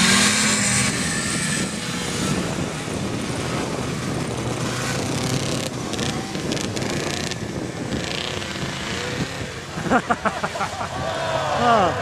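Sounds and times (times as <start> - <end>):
snowmobile engines humming: 0.0 - 12.0.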